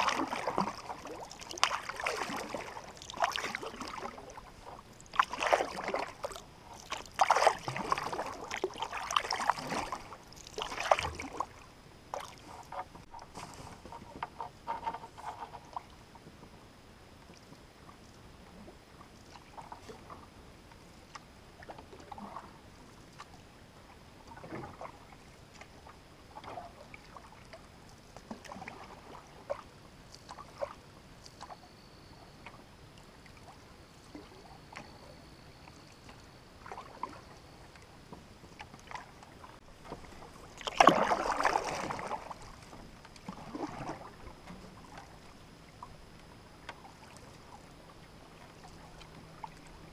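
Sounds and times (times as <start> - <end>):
paddle strokes in water: 0.0 - 49.9.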